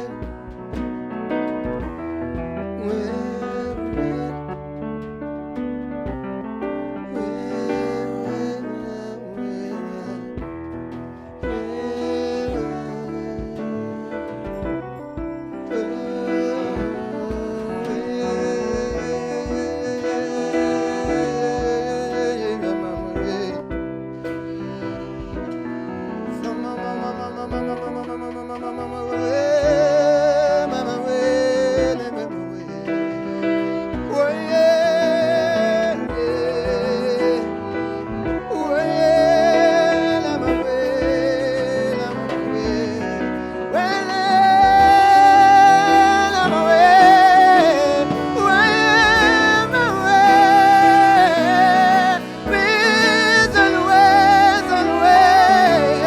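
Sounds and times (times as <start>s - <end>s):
held melody notes with vibrato: 0.0s - 56.0s
live band music: 0.0s - 56.0s.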